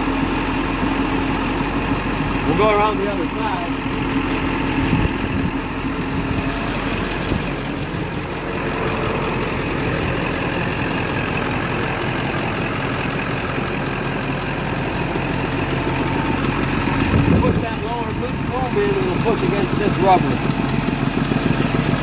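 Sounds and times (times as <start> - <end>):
hydraulic pump running: 0.0 - 22.0
truck engine running: 0.0 - 22.0.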